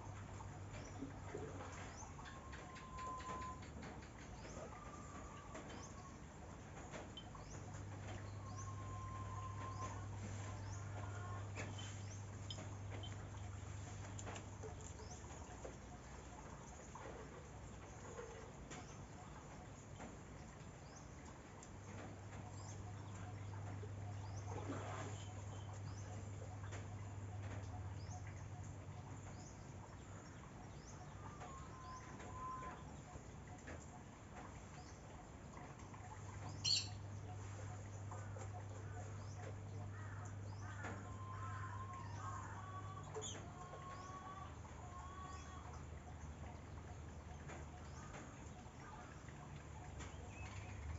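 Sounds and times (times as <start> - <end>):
birds chirping: 0.0 - 50.9
low steady hum: 0.0 - 50.9
chickens clucking: 0.1 - 29.2, 30.5 - 50.9.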